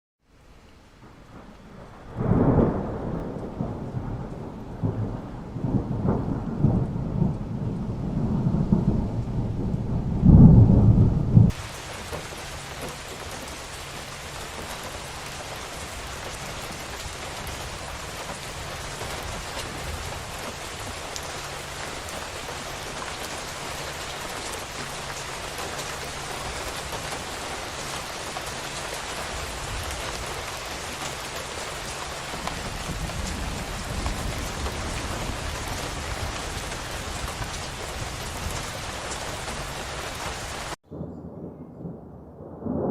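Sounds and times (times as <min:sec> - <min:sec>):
heavy rain on a roof: 0:00.2 - 0:40.8
rolling thunder: 0:01.0 - 0:42.9.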